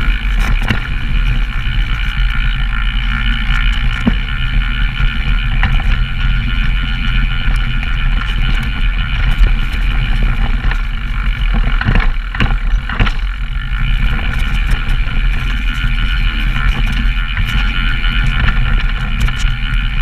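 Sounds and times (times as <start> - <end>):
bike rattling: 0.0 - 20.0
wind on microphone: 0.0 - 20.0.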